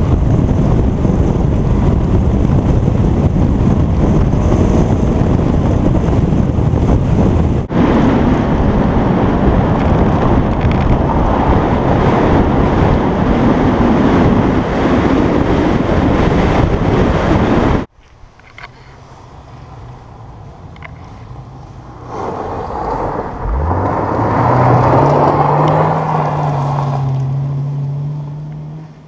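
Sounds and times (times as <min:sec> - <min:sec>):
car running noise: 0:00.0 - 0:29.0
wind buffeting microphone: 0:00.0 - 0:29.0.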